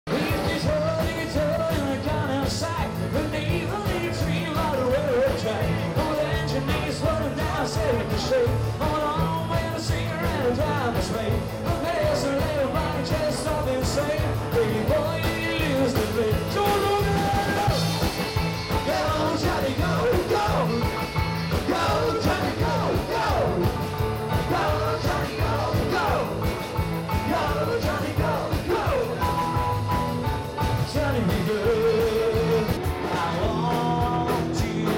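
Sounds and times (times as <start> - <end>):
live rock band playing: 0.1 - 34.9
man singing: 0.1 - 34.9.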